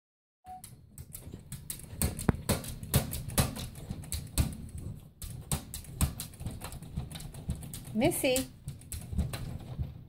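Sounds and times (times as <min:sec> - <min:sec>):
paws and teeth tapping glass: 0:00.8 - 0:10.0.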